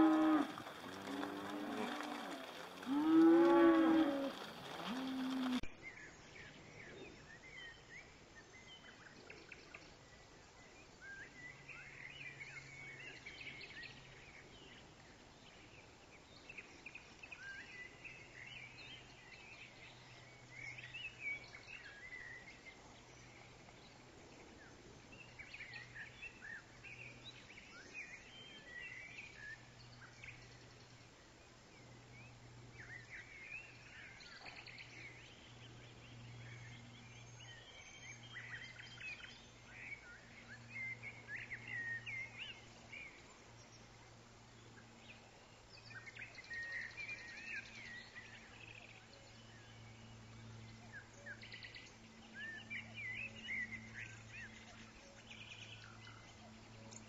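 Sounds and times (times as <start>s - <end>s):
low steady hum: 0.0s - 57.0s
small birds chirping and twittering: 0.0s - 57.0s.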